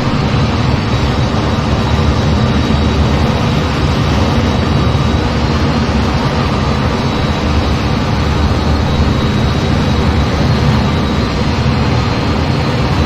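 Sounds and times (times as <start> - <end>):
aircraft engine and airflow: 0.0 - 13.0
faint high whine: 0.0 - 13.0.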